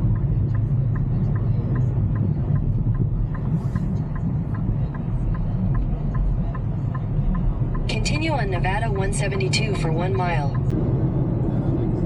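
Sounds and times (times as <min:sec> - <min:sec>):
faint regular ticking: 0:00.0 - 0:10.7
car road rumble: 0:00.0 - 0:12.0.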